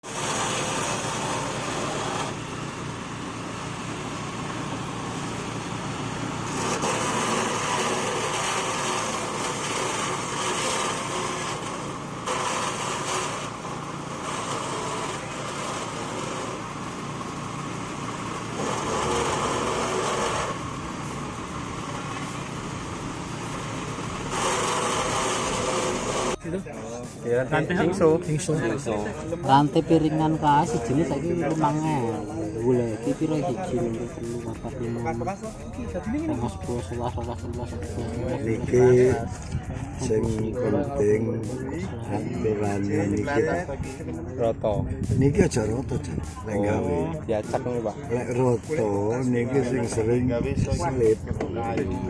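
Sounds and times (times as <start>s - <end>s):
small petrol engine running: 0.0s - 52.0s.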